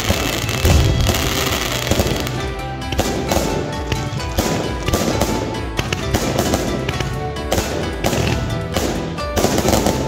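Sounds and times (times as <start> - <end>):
fireworks crackling and popping: 0.0 - 10.0.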